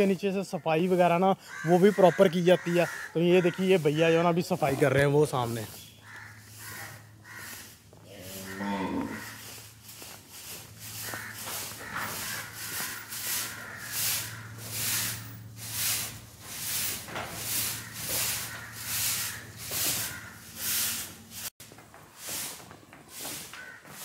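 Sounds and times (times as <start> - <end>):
twig broom sweeping brick floor: 0.0 - 24.0.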